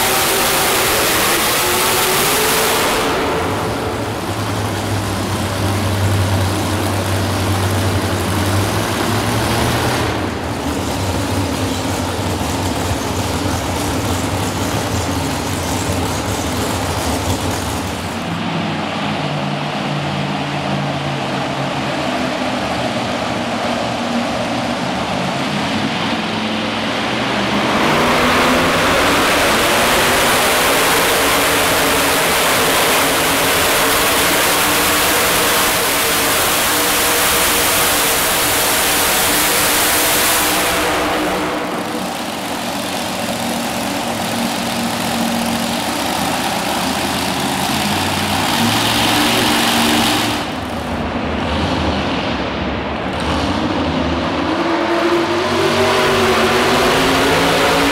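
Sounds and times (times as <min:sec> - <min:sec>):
supercharged engine revving: 0:00.0 - 0:24.4, 0:25.8 - 0:52.4, 0:53.1 - 0:57.9
tractor engines idling: 0:00.0 - 0:54.4.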